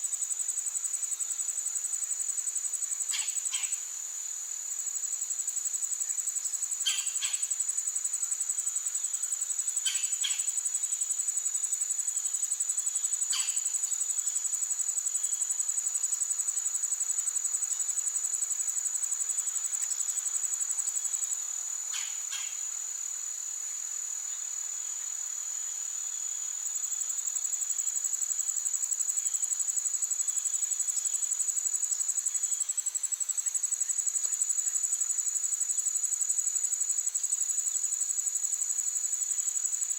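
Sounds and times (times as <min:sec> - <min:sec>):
insects trilling: 0:00.2 - 0:39.9.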